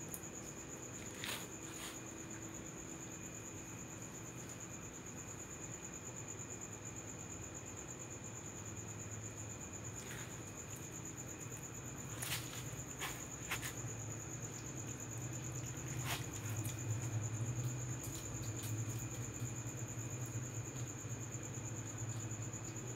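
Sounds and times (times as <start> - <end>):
crickets trilling: 0.0 - 22.9.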